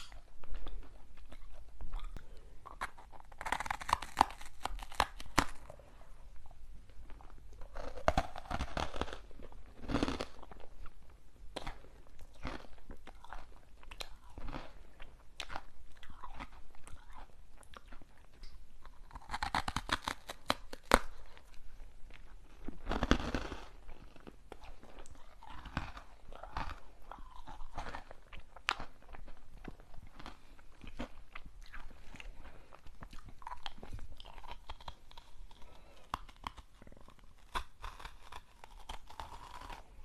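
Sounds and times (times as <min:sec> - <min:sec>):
chewing hard sweets: 0:00.0 - 0:40.0.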